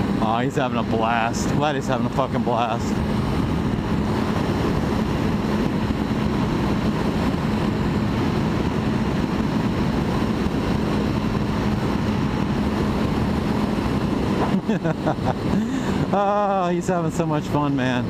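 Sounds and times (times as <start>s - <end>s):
wind noise on microphone: 0.0s - 16.5s
motorcycle engine drone: 0.0s - 18.0s.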